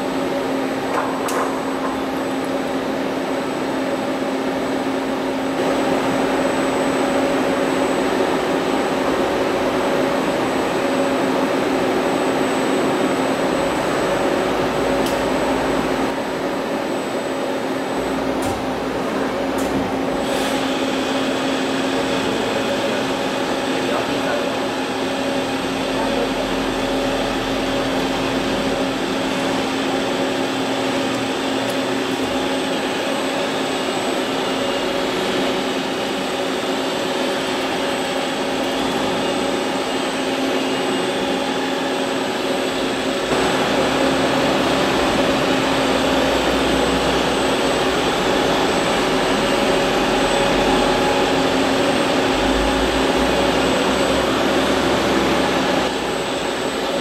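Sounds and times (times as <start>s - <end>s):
lathe whirring with high whine: 0.0s - 57.0s.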